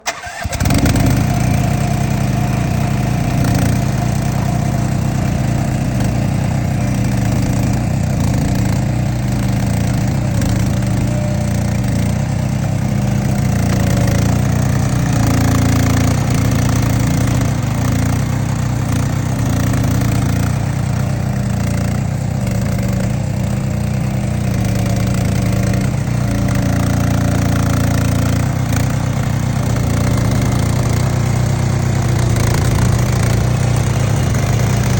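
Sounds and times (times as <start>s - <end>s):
digging machine engine running: 0.0s - 34.9s.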